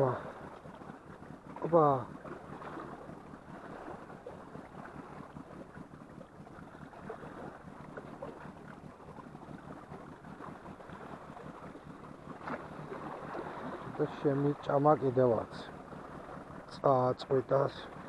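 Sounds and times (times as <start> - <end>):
sea wash at shoreline: 0.0 - 18.0
wind: 0.0 - 18.0.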